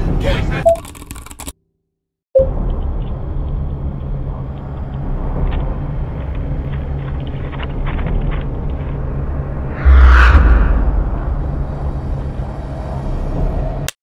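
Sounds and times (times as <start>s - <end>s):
low hum and rumble: 2.5s - 13.9s.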